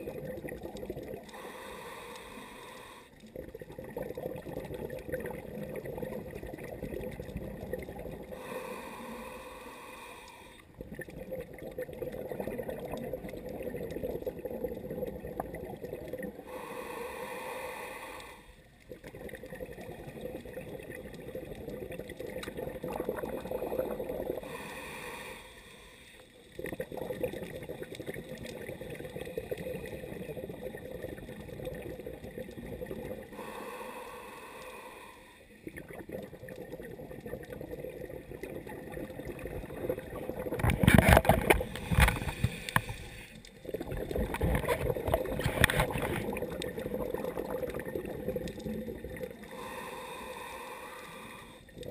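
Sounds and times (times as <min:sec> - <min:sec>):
underwater bubbling and gurgling: 0:00.0 - 0:51.9.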